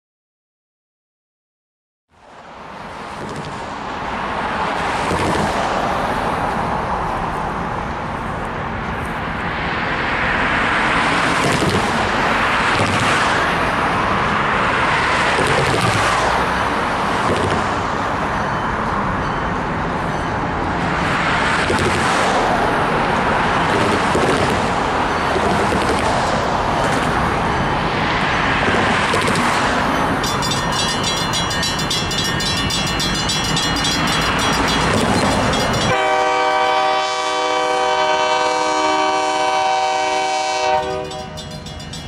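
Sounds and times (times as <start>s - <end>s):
cars passing on highway: 2.2s - 42.0s.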